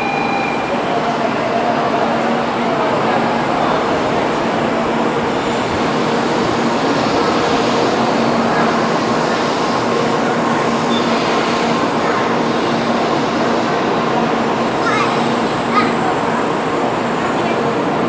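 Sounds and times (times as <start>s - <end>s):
train rolling rumble: 0.0s - 18.0s.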